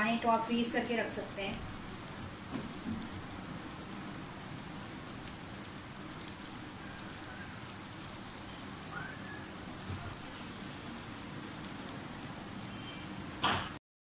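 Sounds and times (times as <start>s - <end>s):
small crackles of frying: 0.0s - 13.8s.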